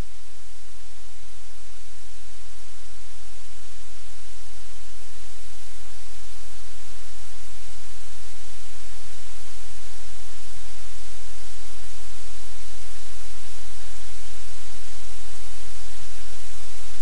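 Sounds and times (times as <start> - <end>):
static-like hiss: 0.0 - 17.0.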